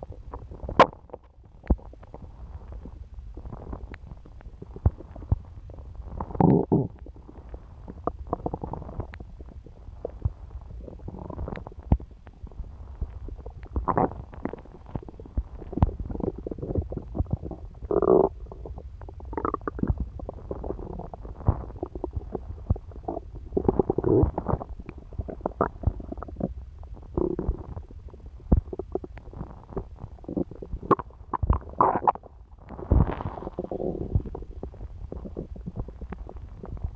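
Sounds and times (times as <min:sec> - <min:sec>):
stomach gurgling: 0:00.0 - 0:36.9.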